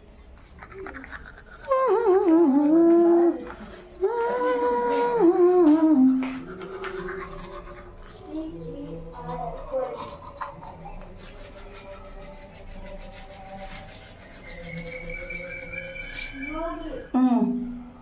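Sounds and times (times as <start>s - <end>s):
toothbrush scrubbing teeth: 0.4s - 16.9s.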